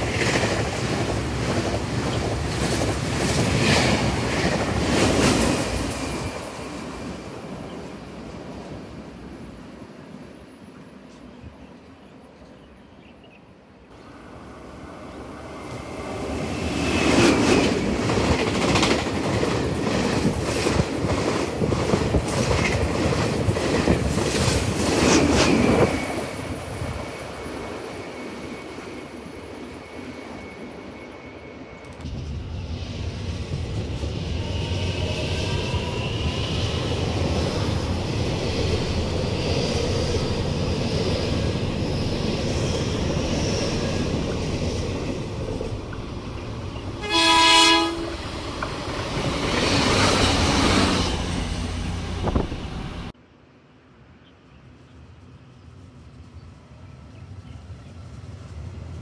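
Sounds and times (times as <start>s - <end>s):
low rumble of trains: 0.0s - 59.0s.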